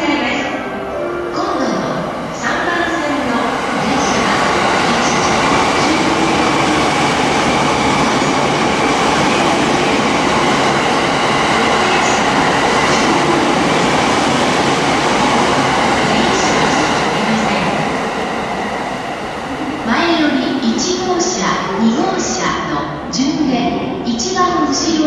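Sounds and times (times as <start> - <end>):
train rushing past: 0.0 - 23.1.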